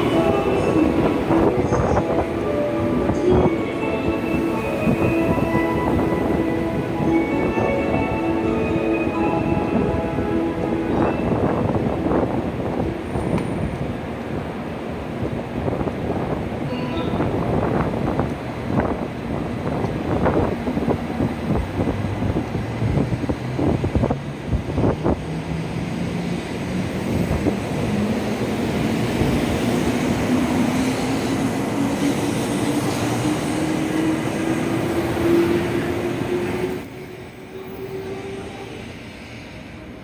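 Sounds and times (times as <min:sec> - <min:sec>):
train rumble: 0:00.0 - 0:40.0.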